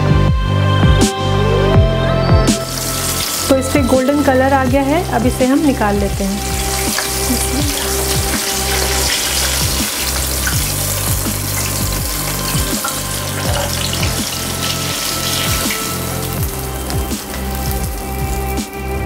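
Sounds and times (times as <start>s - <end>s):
music with repeating bass line: 0.0s - 19.0s
hot oil sizzling: 2.6s - 19.0s.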